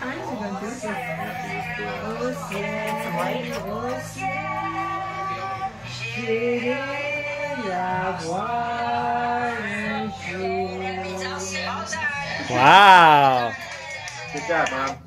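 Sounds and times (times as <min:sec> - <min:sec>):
woman singing slow song: 0:00.0 - 0:14.4.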